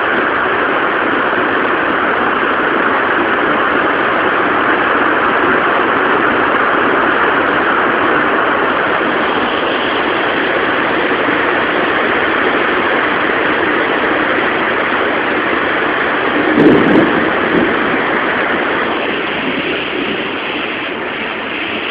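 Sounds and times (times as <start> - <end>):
heavy rain pouring: 0.0 - 21.9.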